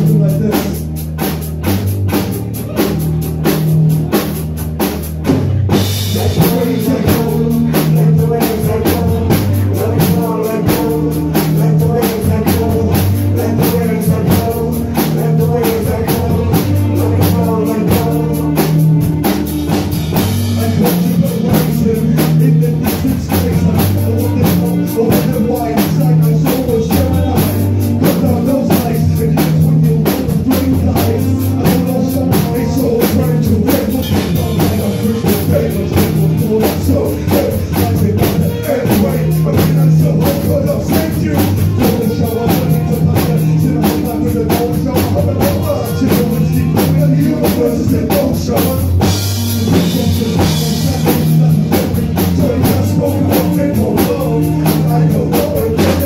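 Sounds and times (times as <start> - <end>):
drum kit beat with cymbals: 0.0 - 56.0
long held bass notes: 0.0 - 56.0.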